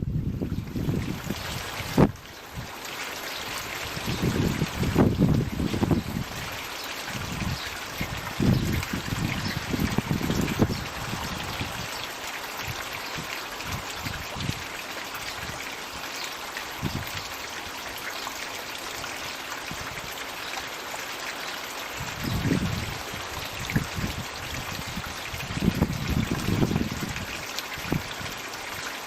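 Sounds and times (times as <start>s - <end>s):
water trickling into a pond: 0.0s - 29.0s.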